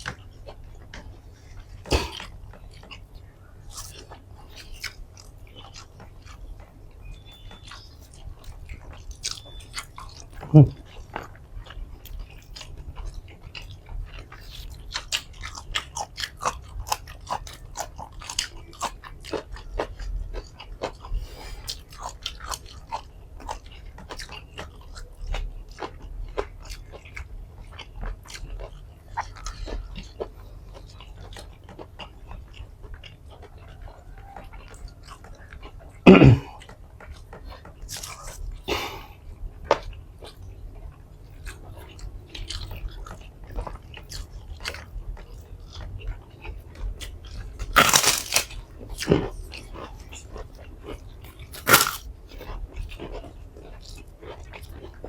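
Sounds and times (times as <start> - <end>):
wet chewing and crunching: 0.0 - 55.0.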